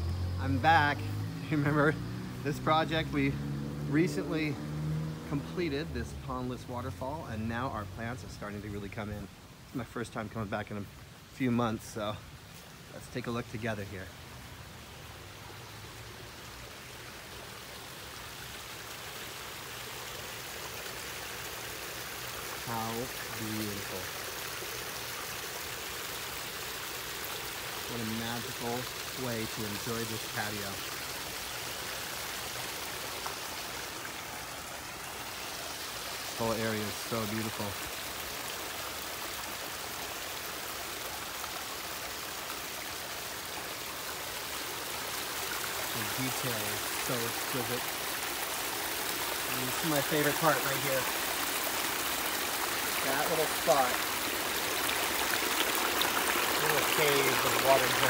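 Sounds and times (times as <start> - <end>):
water splashing over rocks: 0.0 - 10.4, 11.3 - 58.0.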